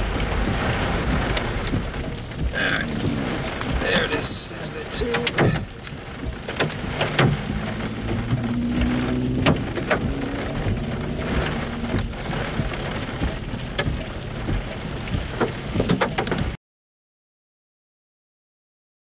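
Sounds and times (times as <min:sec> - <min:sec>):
rain drops striking: 0:00.0 - 0:16.6.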